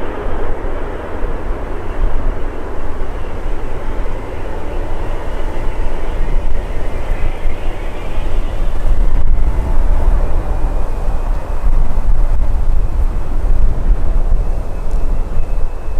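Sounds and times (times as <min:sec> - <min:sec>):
jet airliner engines rumbling: 0:00.0 - 0:15.9.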